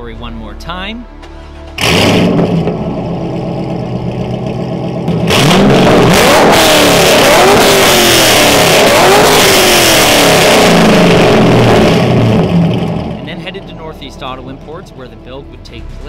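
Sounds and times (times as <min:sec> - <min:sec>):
car engine idling and revving: 0:01.1 - 0:16.0.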